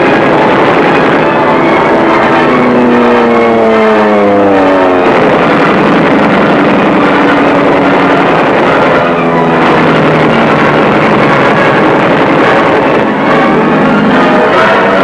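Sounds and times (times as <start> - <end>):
piston aircraft engines diving past: 0.0 - 15.0.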